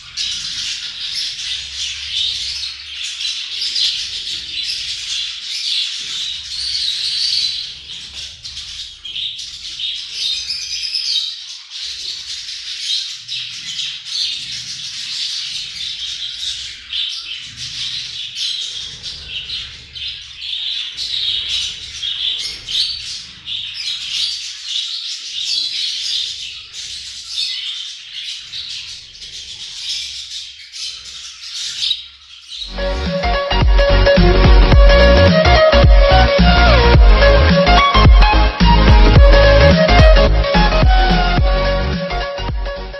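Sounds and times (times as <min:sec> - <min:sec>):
budgerigars chattering and warbling: 0:00.0 - 0:41.2.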